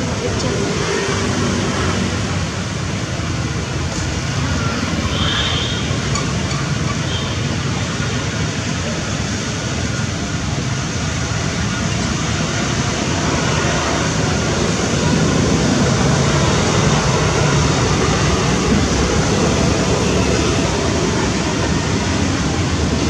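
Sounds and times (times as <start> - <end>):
motorbikes passing: 0.0 - 23.0.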